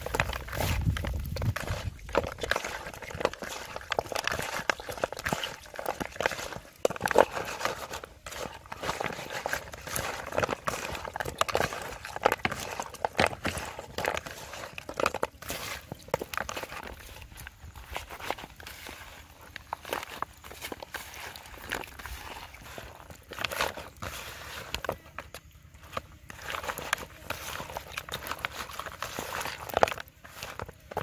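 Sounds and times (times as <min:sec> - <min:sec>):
chicken feet squelching in paste: 0:00.0 - 0:31.0.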